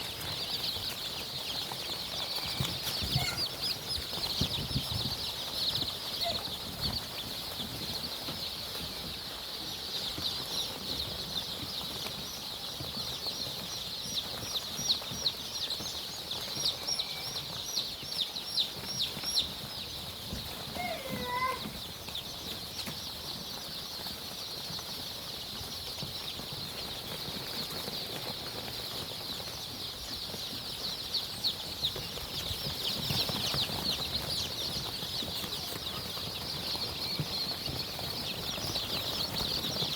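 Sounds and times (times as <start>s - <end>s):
flock of chickens chirping: 0.0s - 39.9s.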